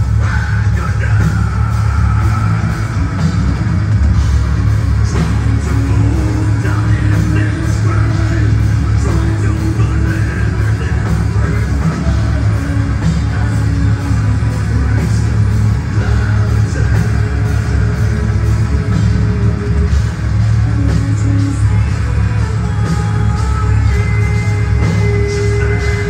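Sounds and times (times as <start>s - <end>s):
metal band playing live: 0.0s - 26.0s.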